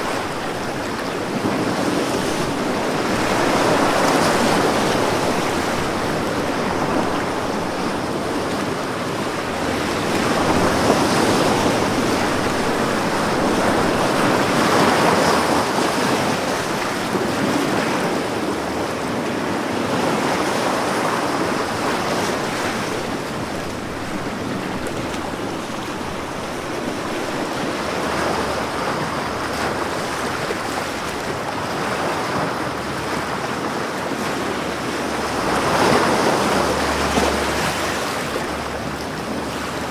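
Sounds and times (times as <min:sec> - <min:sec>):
ocean waves breaking on shore: 0:00.0 - 0:39.9
wind: 0:00.0 - 0:39.9.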